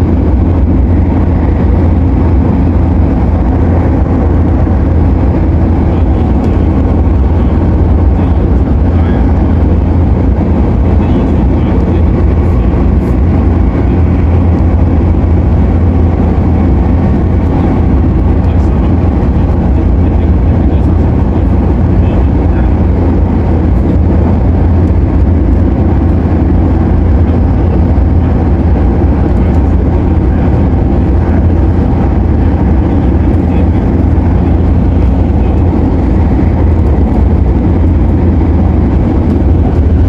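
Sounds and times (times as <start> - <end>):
steady hum tones: 0.0 - 40.0
train cabin rumble: 0.0 - 40.0.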